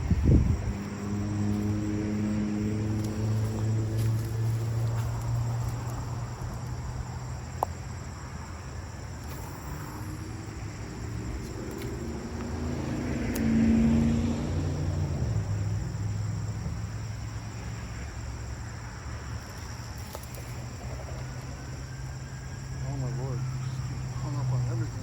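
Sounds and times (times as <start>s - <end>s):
motor vehicle engine drone: 0.0s - 25.0s.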